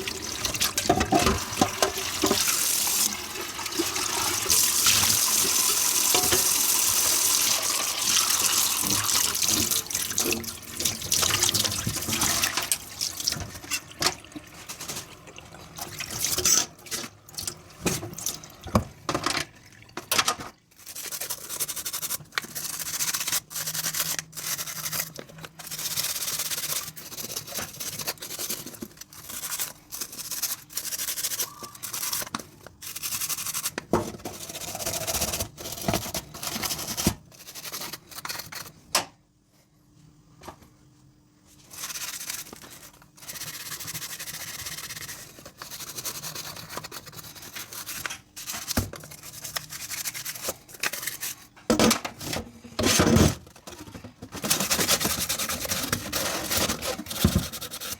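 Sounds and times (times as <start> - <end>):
dishes being scrubbed by hand: 0.0 - 18.3, 20.8 - 38.7, 41.6 - 51.6, 52.2 - 57.9.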